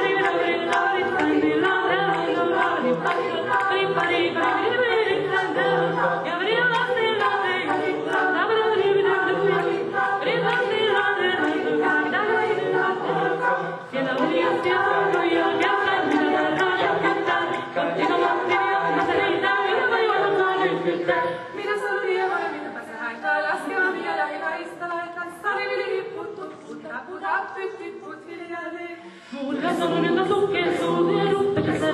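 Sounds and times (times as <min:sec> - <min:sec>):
mixed choir singing a cappella: 0:00.0 - 0:31.9.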